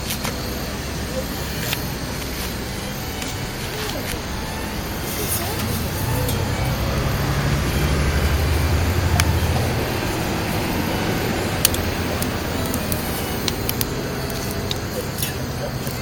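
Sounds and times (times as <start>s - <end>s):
twigs crackling: 1.0s - 16.0s.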